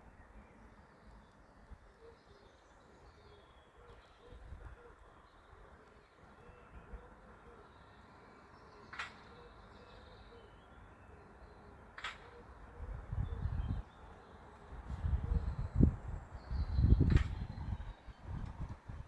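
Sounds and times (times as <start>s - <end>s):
faint bird calls: 0.0s - 15.8s.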